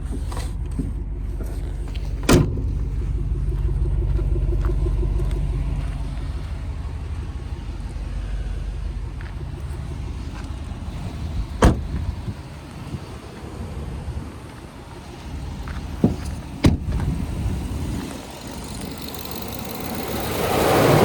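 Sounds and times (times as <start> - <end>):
truck engine rumble: 0.0 - 21.0.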